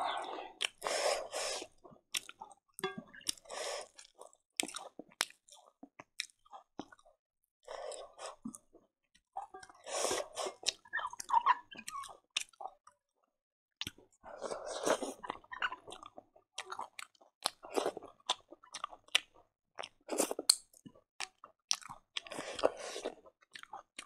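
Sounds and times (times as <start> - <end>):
wet chewing with crunches: 0.2 - 7.1, 7.8 - 12.8, 13.8 - 24.0.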